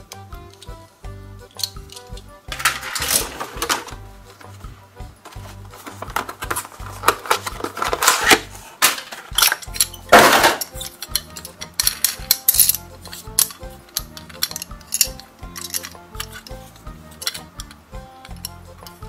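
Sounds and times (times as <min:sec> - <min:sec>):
toy truck clicking: 0:00.0 - 0:04.0, 0:06.0 - 0:19.0
soft background music: 0:00.0 - 0:19.0.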